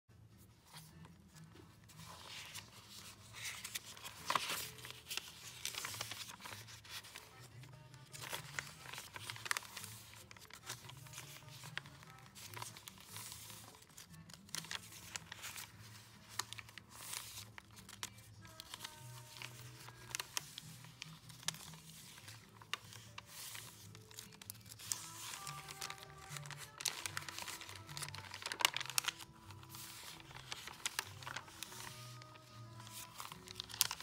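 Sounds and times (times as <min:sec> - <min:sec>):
quiet background music: 0:00.1 - 0:34.0
paper pages rustling: 0:00.4 - 0:34.0.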